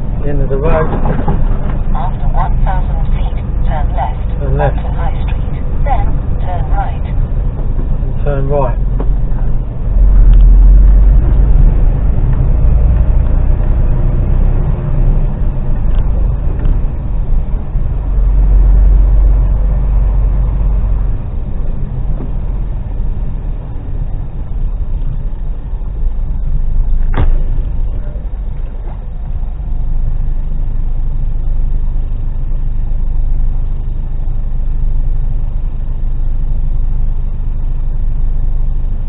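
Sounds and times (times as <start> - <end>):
lorry diesel engine rumble: 0.0 - 39.0
road noise: 0.0 - 39.0.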